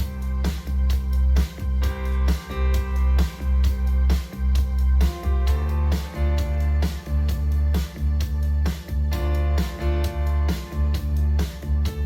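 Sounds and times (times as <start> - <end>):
funk instrumental through speaker: 0.0 - 12.0.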